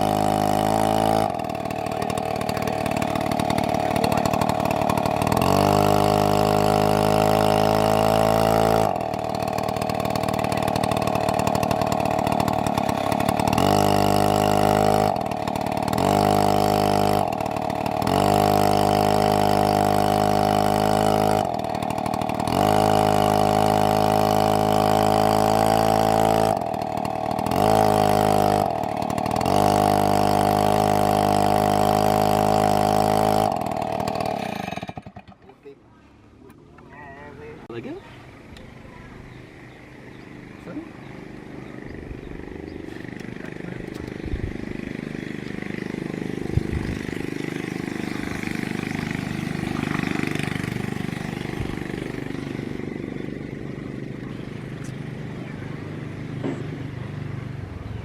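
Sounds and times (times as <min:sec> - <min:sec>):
chainsaw running at high revs: 0:00.0 - 0:35.6, 0:39.5 - 0:56.7.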